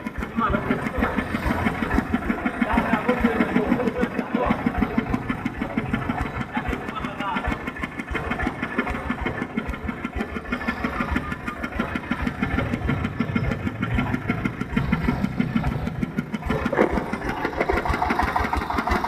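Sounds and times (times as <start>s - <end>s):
rice milling machine engine running: 0.0s - 19.0s.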